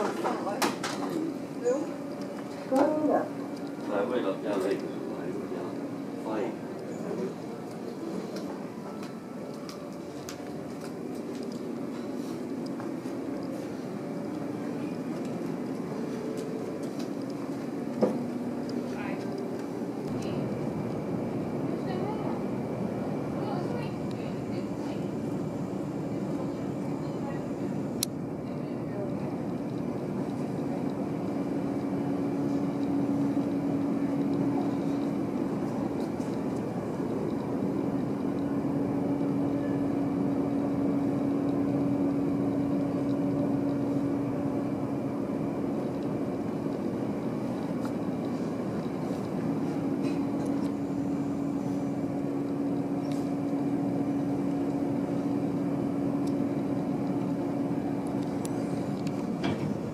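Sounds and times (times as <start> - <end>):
ship machinery hum: 0.0 - 59.9.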